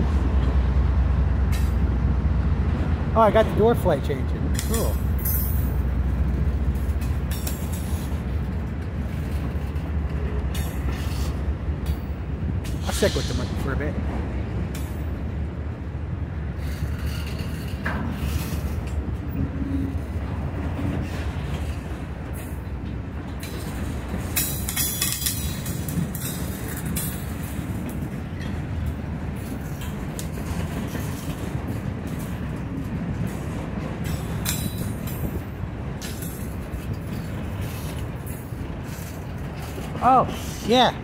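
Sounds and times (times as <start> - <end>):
freight train rumble and clatter: 0.0 - 41.0.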